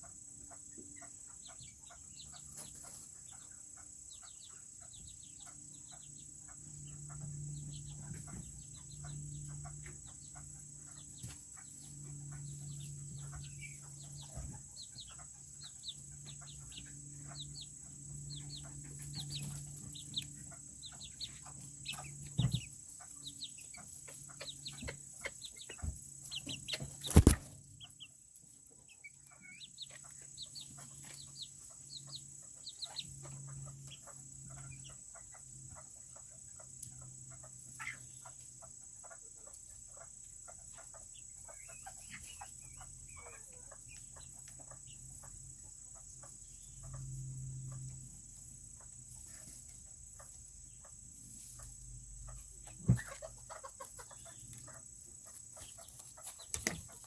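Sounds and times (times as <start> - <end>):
chickens clucking and peeping: 0.0 - 57.0.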